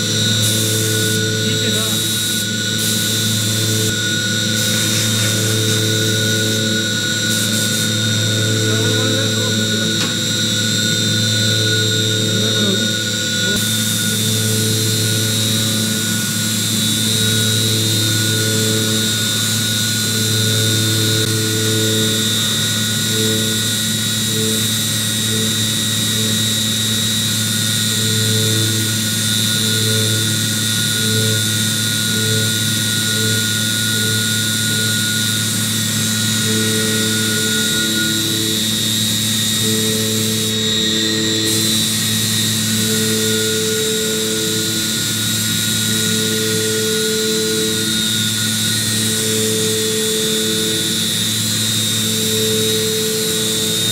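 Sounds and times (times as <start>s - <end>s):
high spindle whine: 0.0s - 53.9s
low machine hum: 0.0s - 53.9s
lower cutting tones: 0.0s - 53.9s.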